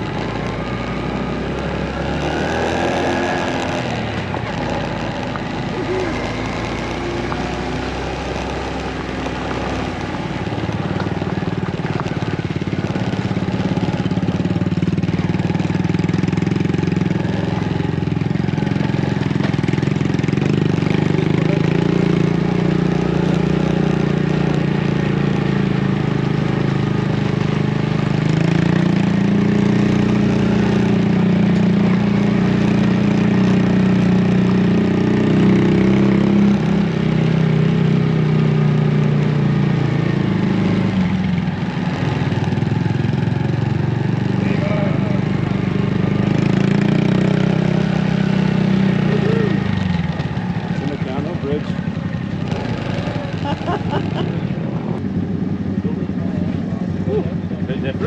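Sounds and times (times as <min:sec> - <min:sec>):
motorcycle engine idling: 0:03.2 - 0:58.0.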